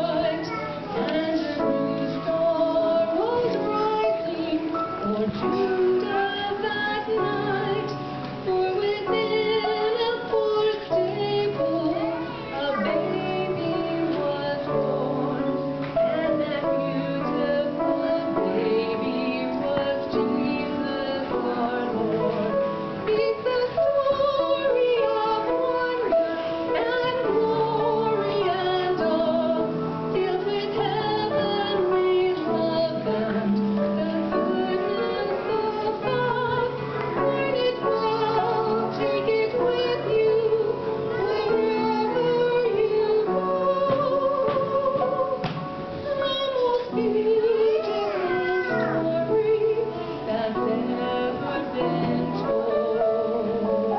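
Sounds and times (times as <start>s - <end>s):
instrumental accompaniment: 0.0s - 53.9s
woman singing with vibrato: 0.0s - 53.9s.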